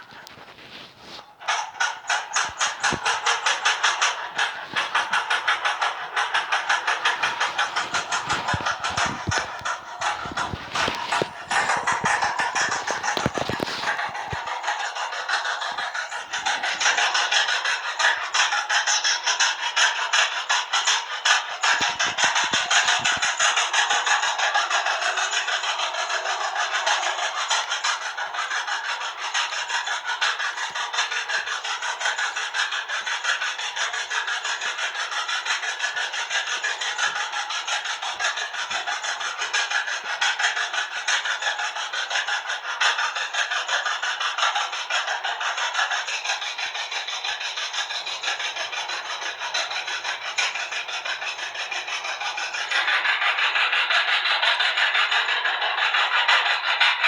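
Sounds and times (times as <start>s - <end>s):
raspy tractor engine running: 0.0s - 57.0s.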